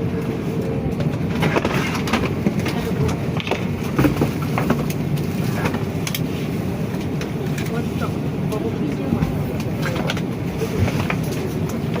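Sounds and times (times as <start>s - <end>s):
faint passenger voices: 0.0s - 12.0s
steady low cabin hum: 0.0s - 12.0s.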